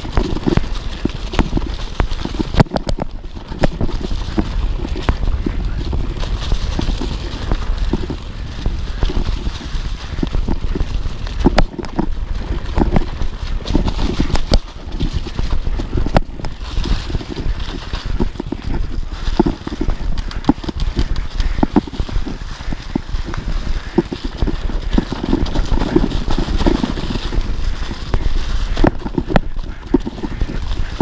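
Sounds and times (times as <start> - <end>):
bike knocking and rattling: 0.0 - 31.0
tyres over dirt and leaves: 0.0 - 31.0
wind rumble on microphone: 0.0 - 31.0.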